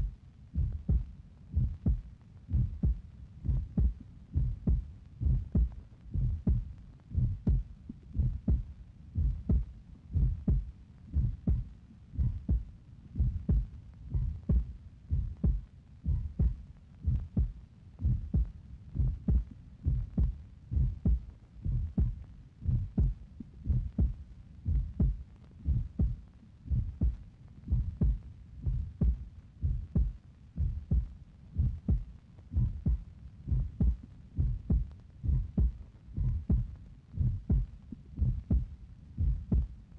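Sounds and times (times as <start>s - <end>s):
regular low thumping: 0.0s - 39.8s.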